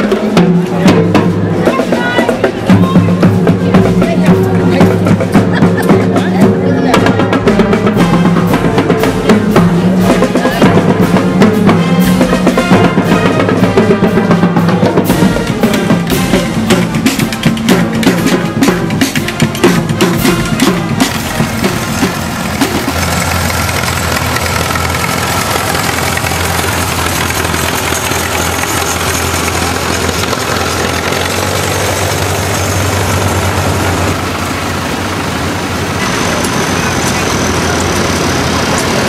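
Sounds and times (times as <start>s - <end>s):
marching band drums and horns: 0.0s - 39.0s
tractor engines droning: 0.0s - 39.0s.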